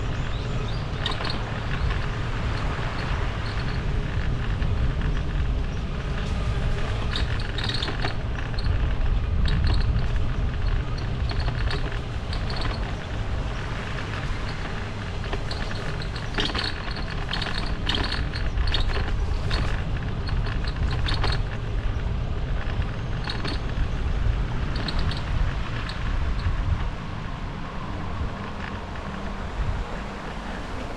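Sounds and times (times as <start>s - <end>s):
wind buffeting microphone: 0.0s - 30.9s
rattling clicks: 0.2s - 26.8s.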